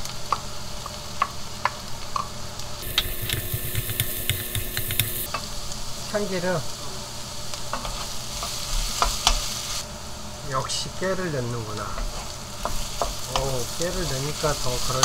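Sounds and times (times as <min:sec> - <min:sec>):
vegetables sizzling in wok: 0:00.0 - 0:15.0.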